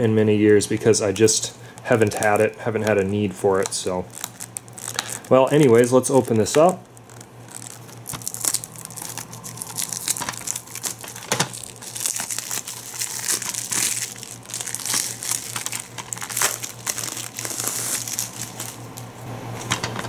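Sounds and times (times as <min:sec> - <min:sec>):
plastic wrap crinkling: 0:00.4 - 0:19.7.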